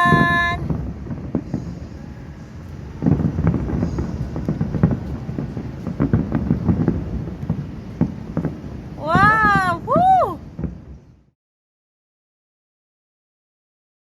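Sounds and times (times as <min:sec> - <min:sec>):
fireworks bangs and crackles: 0:00.0 - 0:11.3.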